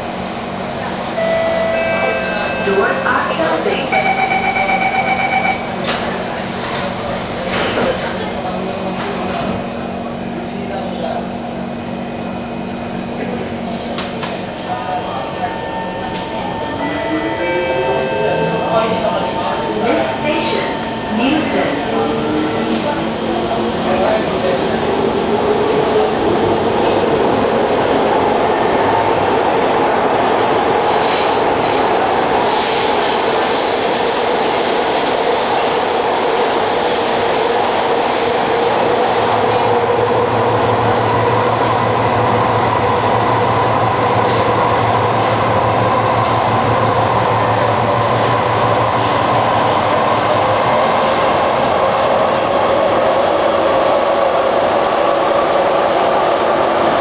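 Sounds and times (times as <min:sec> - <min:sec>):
train wheel and running noise: 0:00.0 - 0:57.0.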